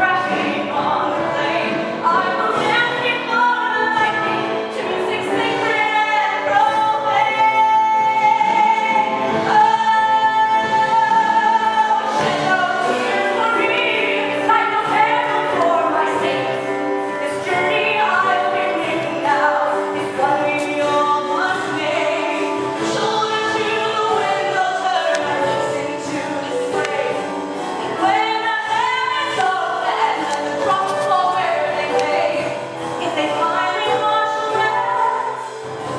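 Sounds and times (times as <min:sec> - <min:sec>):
person singing: 0:00.0 - 0:35.9.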